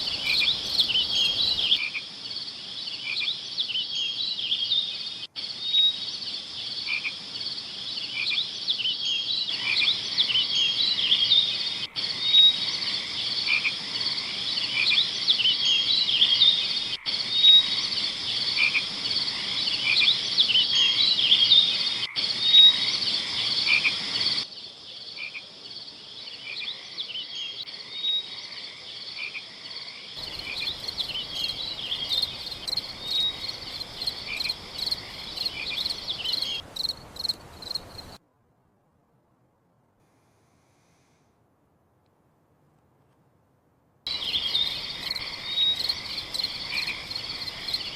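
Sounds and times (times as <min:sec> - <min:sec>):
frogs calling: 0:00.0 - 0:24.5, 0:26.1 - 0:38.2, 0:44.1 - 0:47.9.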